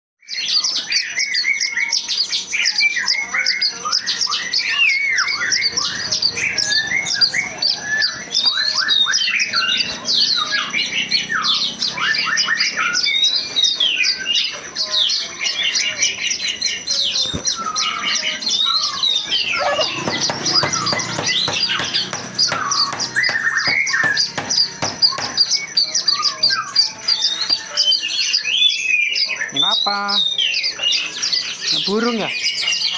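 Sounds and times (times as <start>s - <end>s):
birds chirping and squawking: 0.2s - 32.9s.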